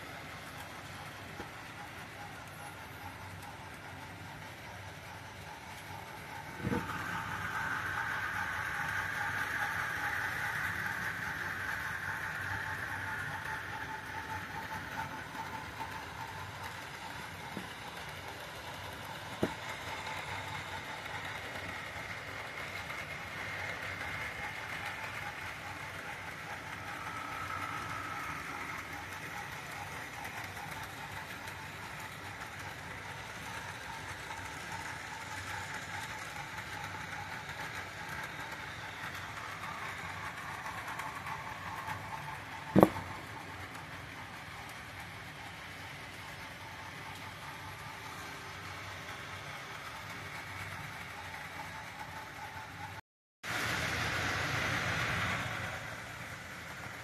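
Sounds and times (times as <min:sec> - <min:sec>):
model train motor and gear whine: 0:00.0 - 0:57.0
wheel clatter on track: 0:00.0 - 0:57.0.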